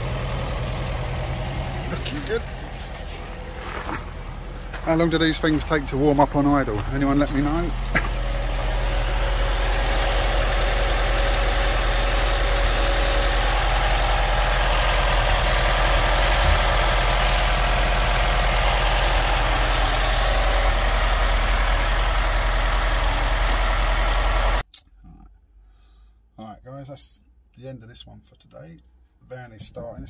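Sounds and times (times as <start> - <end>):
van engine idling: 0.0 - 24.7.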